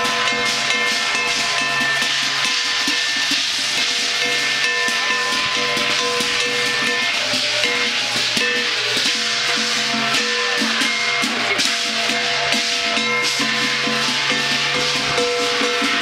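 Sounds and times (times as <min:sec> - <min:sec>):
big drum beating: 0:00.0 - 0:16.0
struck percussion beating: 0:00.0 - 0:16.0.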